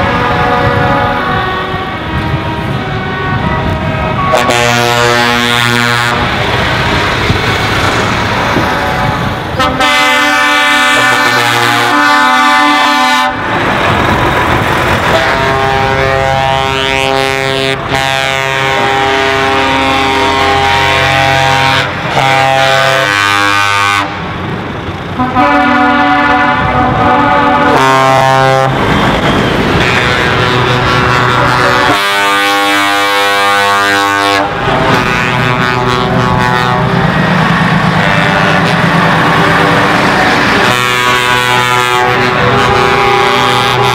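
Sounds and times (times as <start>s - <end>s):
truck air horn blasts: 0.0s - 6.6s, 8.6s - 13.5s, 15.0s - 24.2s, 25.1s - 37.2s, 38.0s - 43.9s
trucks passing: 0.0s - 43.9s.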